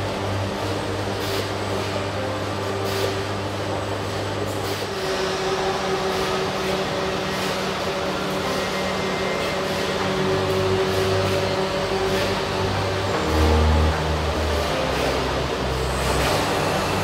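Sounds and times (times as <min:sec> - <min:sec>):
industrial machinery hum: 0:00.0 - 0:17.0.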